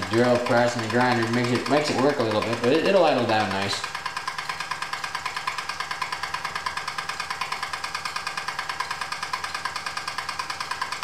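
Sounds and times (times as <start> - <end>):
toy steam engine chuffing: 0.0 - 11.0.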